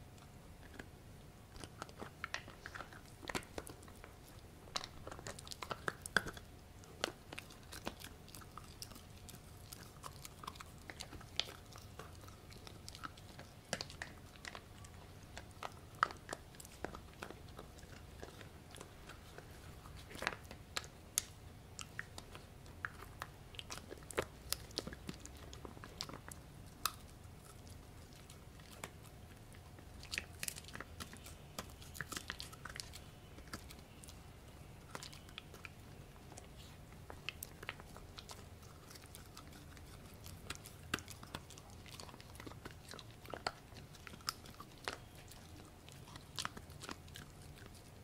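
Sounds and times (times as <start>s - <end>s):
puppy chewing crunchy food: 0.0s - 48.0s.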